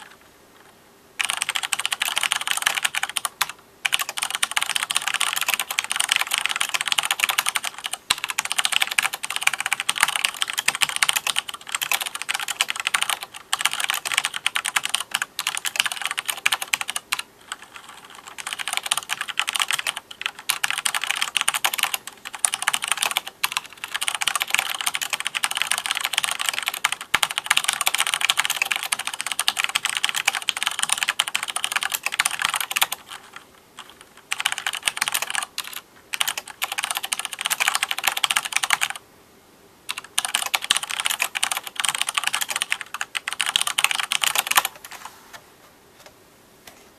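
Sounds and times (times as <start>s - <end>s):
fast mechanical keyboard typing: 1.2s - 39.0s, 39.9s - 45.0s.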